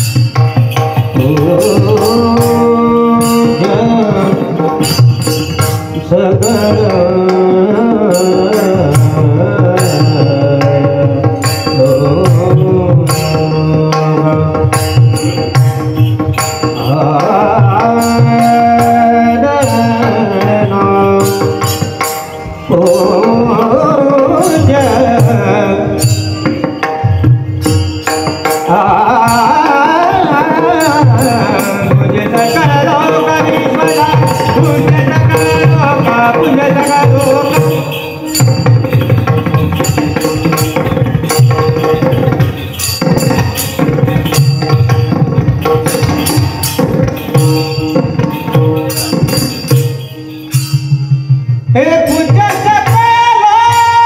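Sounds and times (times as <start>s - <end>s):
hand drum: 0.0s - 54.0s
percussion beat: 0.0s - 54.0s
person singing devotional song: 0.1s - 27.0s, 28.4s - 51.0s, 51.7s - 54.0s.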